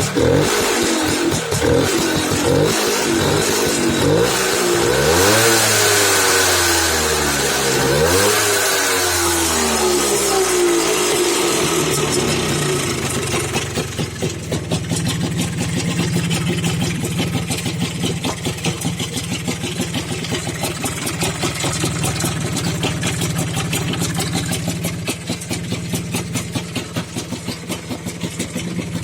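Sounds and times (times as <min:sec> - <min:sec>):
engine idling with rapid pulse: 0:00.0 - 0:29.0.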